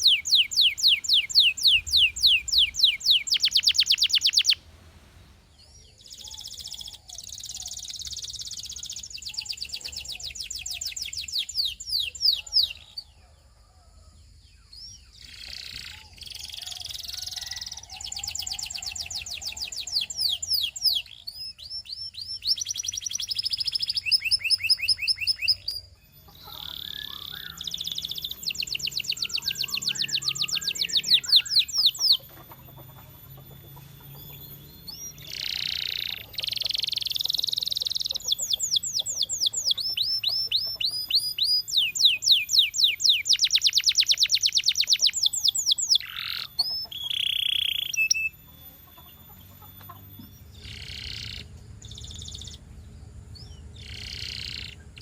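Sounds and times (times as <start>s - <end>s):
canary singing: 0.0s - 13.2s, 14.5s - 55.0s.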